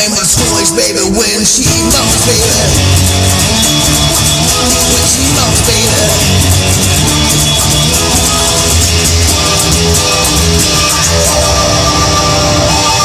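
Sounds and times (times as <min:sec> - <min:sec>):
rock music with guitar: 0:00.0 - 0:13.0
steady cymbal beat: 0:01.6 - 0:13.0.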